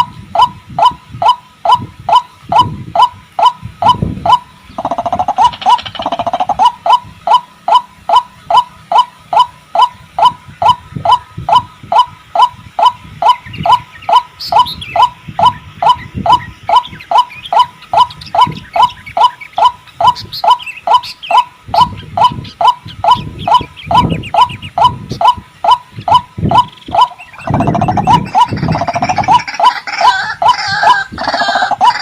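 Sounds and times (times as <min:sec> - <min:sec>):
waterhen calling: 0:00.0 - 0:32.0.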